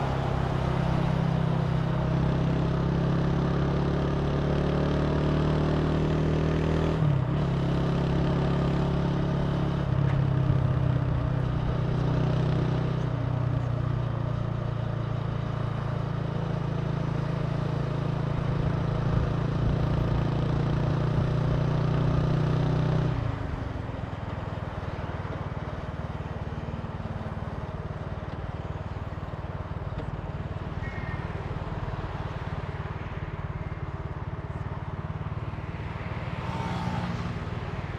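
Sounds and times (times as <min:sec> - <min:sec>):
motorcycle engine running: 0:00.0 - 0:36.4.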